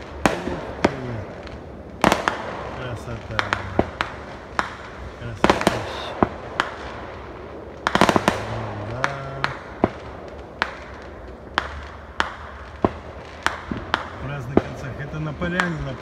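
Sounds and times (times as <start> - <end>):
distant firework bangs: 0.0 - 16.0
firework crackling: 0.0 - 16.0.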